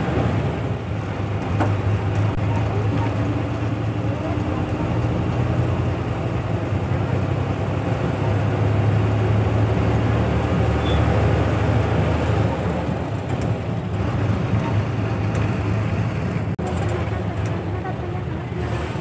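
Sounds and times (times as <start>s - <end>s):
bus engine running: 0.0s - 19.0s
road and tyre noise: 0.0s - 19.0s.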